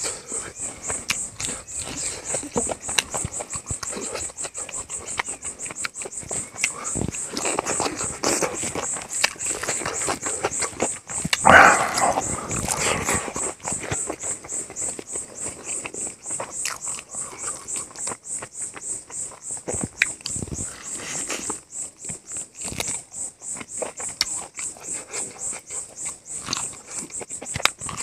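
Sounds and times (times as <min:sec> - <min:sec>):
wet chewing and smacking: 0:00.0 - 0:28.0.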